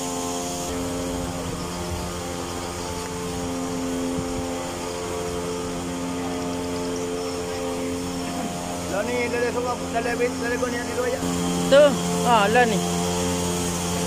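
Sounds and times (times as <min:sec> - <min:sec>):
power sprayer engine drone: 0:00.0 - 0:14.0.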